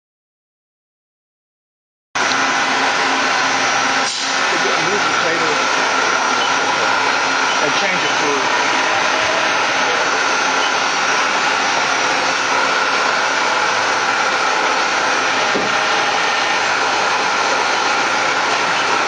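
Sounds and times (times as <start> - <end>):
machining center whirring: 2.2 - 19.0.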